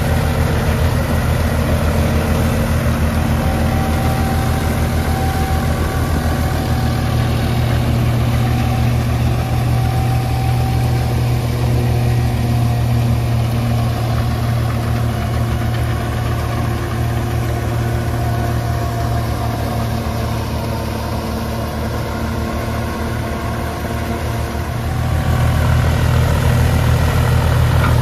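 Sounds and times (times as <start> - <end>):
straw reaper cutting and blowing straw: 0.0 - 28.0
tractor engine running under load: 0.0 - 28.0.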